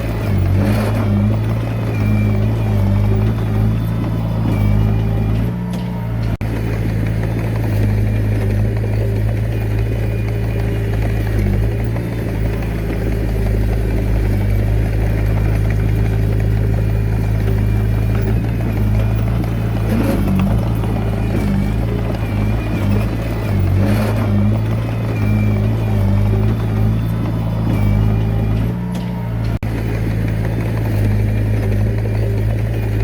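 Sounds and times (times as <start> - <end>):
bulldozer diesel engine droning: 0.0 - 33.0.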